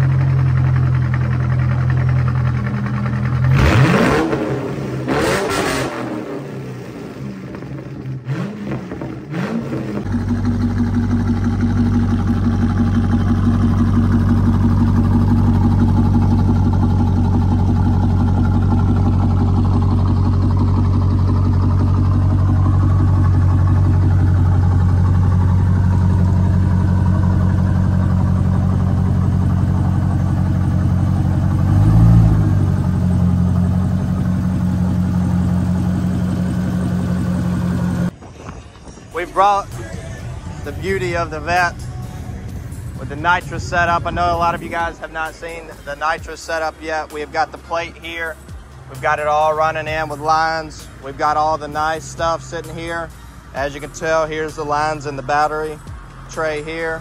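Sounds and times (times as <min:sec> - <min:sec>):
car engine revving and idling: 0:00.0 - 0:38.2, 0:39.1 - 0:57.0.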